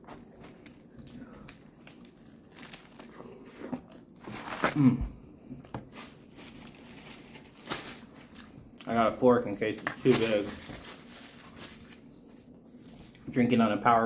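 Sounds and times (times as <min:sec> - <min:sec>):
paper wrapper crinkling: 0:00.0 - 0:04.8, 0:05.8 - 0:08.6, 0:09.5 - 0:13.3.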